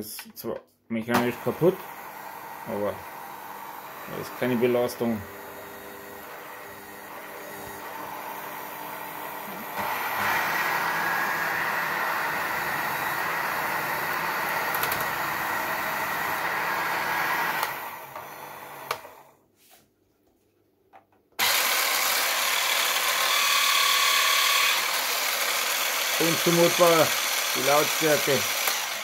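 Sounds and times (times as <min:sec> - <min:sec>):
electric hand mixer whirring: 0:01.1 - 0:19.4, 0:21.4 - 0:29.0.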